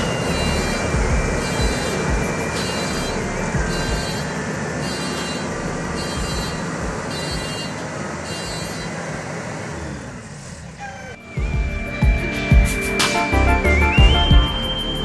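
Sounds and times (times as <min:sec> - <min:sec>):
combine harvester rumbling: 0:00.0 - 0:12.4.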